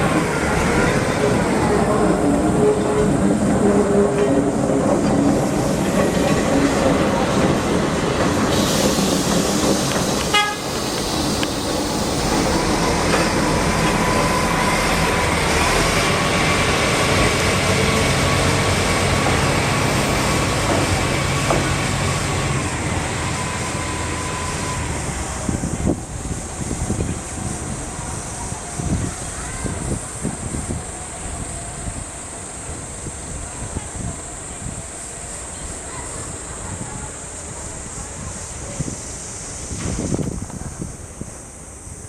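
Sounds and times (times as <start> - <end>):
rail noise: 0.0 - 42.0
train engine hum: 0.0 - 42.0.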